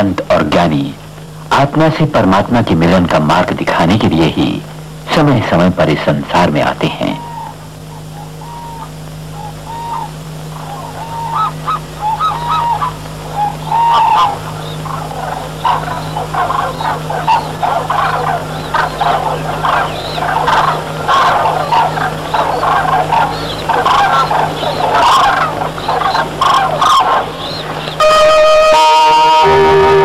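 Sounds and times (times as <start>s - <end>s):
birds calling: 0.0s - 30.0s
steady low hum: 0.0s - 30.0s.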